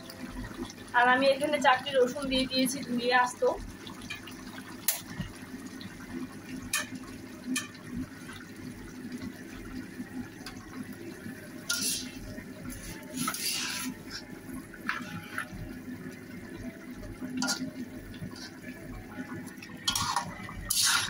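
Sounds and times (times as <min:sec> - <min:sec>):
curry bubbling and popping: 0:00.0 - 0:21.0.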